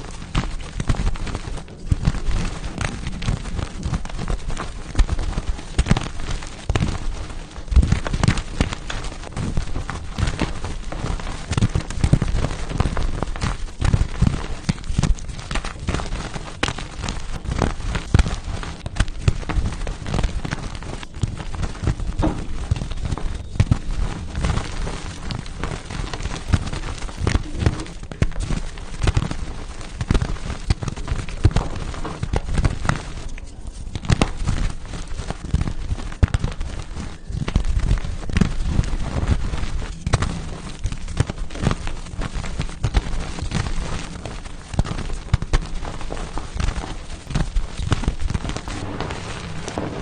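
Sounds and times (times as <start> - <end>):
chalk crunching and cracking: 0.0 - 50.0.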